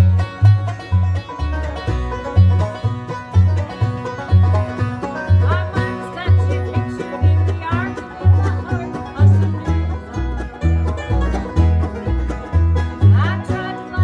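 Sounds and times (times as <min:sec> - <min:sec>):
banjo picking: 0:00.0 - 0:14.0
bass line: 0:00.0 - 0:14.0
guitar picking: 0:00.0 - 0:14.0.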